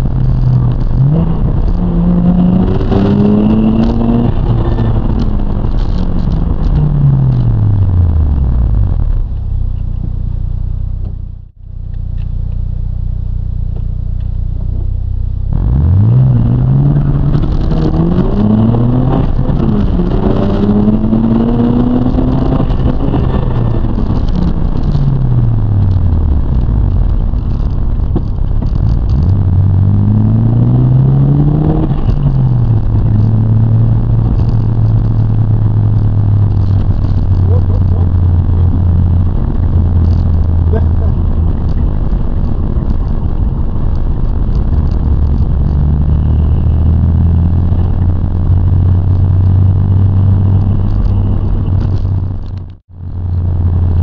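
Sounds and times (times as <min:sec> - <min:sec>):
rotary car engine revving: 0:00.0 - 0:11.5, 0:15.5 - 0:42.9, 0:44.3 - 0:54.0.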